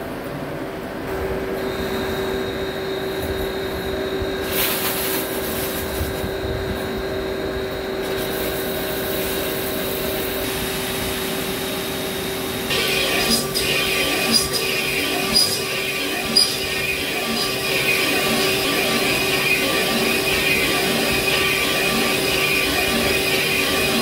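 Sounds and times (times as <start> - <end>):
high machine whine: 0.0 - 24.0
lathe humming: 1.1 - 24.0.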